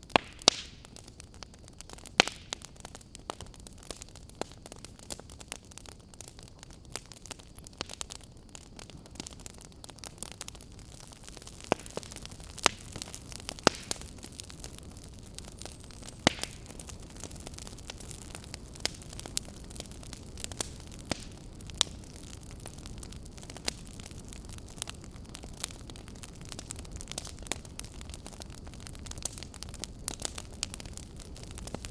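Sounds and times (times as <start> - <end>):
campfire crackling: 0.0 - 31.9.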